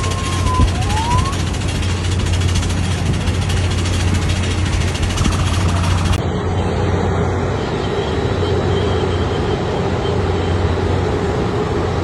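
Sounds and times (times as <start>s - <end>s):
machinery drone: 0.0s - 12.0s.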